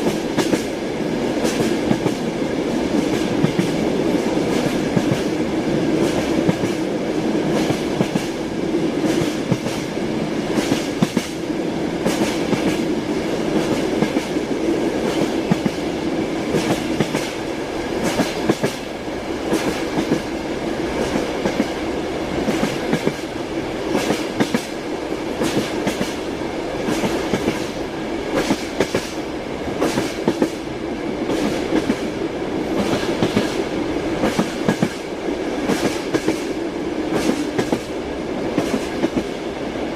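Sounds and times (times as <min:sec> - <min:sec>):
moving train rumble: 0:00.0 - 0:39.9.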